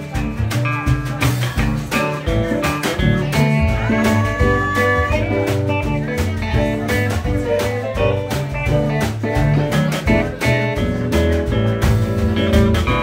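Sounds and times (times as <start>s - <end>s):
drum kit beat: 0.0s - 13.0s
electric guitars: 0.0s - 13.0s.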